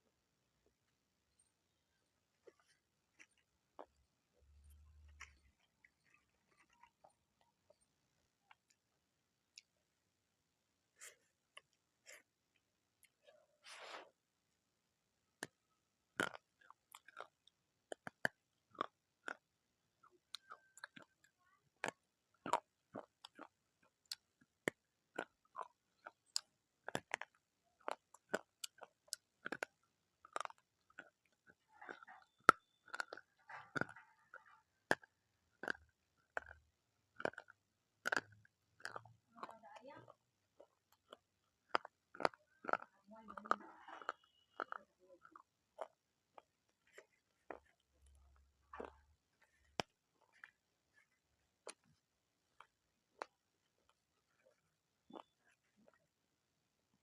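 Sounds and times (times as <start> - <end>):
person chewing crunchy food: 2.4 - 7.9, 15.4 - 56.2.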